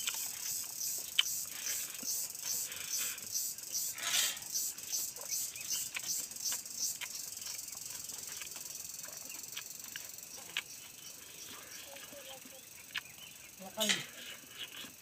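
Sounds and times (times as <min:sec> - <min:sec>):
soft rhythmic chewing: 0:00.0 - 0:15.0.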